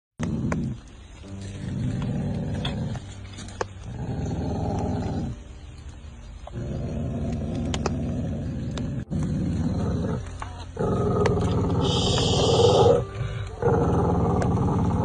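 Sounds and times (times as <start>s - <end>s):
dog growling: 0.2s - 0.9s, 1.6s - 3.2s, 3.8s - 5.4s, 6.4s - 15.0s.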